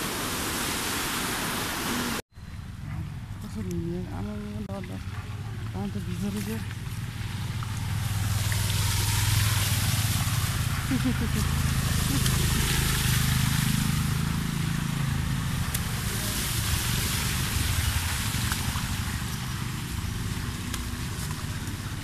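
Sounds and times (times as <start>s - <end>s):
water spray hissing from tyres: 0.0s - 2.2s, 4.9s - 22.0s
motorcycle engine running: 2.6s - 22.0s.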